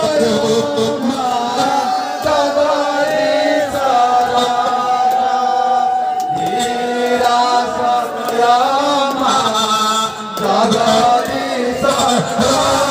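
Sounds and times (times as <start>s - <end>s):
man chanting into a microphone: 0.0s - 12.9s.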